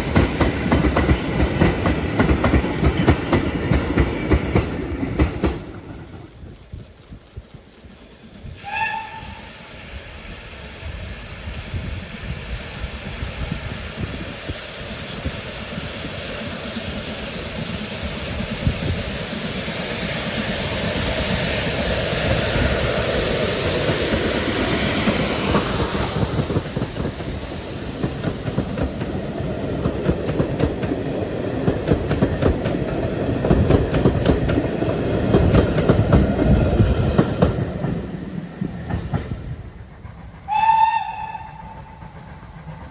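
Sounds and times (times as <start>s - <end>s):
low train rumble: 0.0s - 42.9s
rising hiss: 0.0s - 42.9s.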